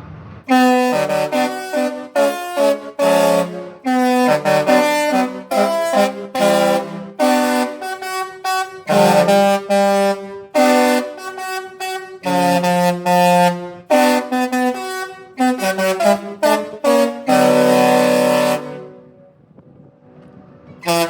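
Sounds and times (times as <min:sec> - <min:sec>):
ship horn playing a tune: 0:00.5 - 0:19.4, 0:20.8 - 0:21.0.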